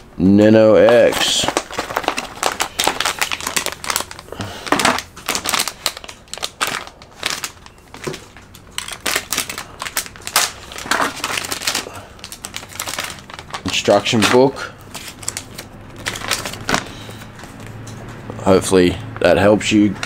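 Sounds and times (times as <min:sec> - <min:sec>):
plastic bag crinkling: 0:00.8 - 0:17.9.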